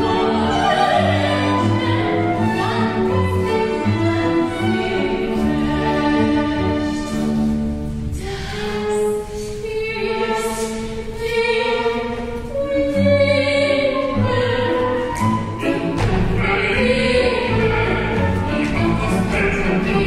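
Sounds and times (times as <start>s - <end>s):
operatic singing: 0.0s - 20.0s
strings and piano orchestra: 0.0s - 20.0s.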